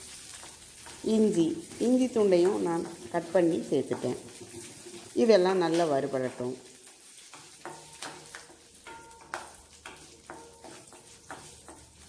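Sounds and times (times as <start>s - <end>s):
food sizzling in oil: 0.0s - 12.0s
wooden spatula scraping pan: 0.3s - 12.0s.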